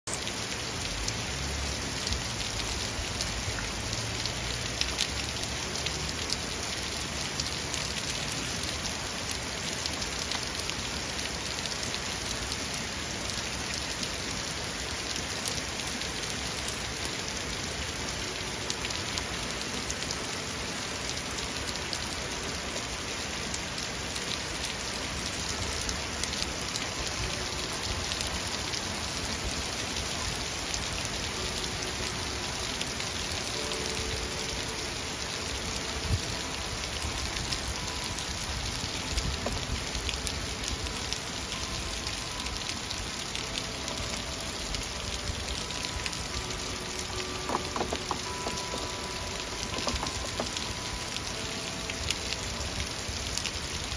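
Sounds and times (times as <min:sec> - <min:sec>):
heavy rain falling: 0:00.0 - 0:53.9
raindrops ticking close by: 0:00.1 - 0:53.9.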